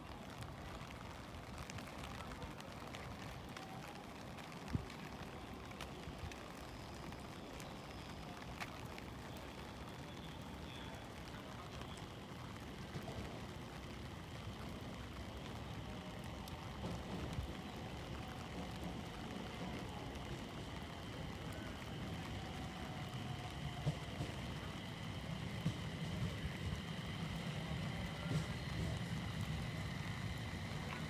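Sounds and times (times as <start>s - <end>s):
low outdoor rumble: 0.0s - 31.0s
train approaching: 0.0s - 31.0s
dripping water ticks: 0.1s - 31.0s.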